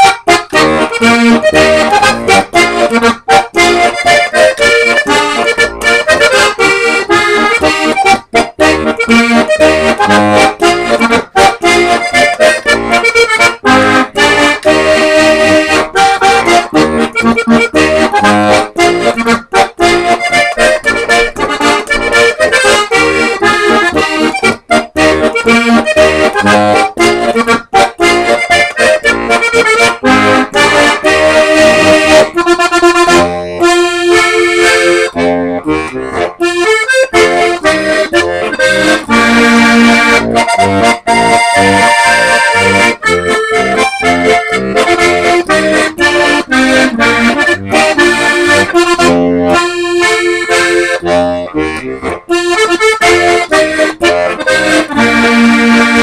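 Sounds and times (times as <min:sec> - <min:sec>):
button accordion playing polka: 0:00.0 - 0:56.0.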